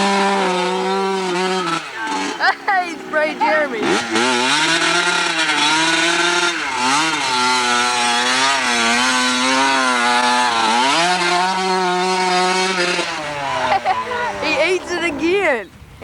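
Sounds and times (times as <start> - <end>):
dirt bike engine revving: 0.0 - 15.7.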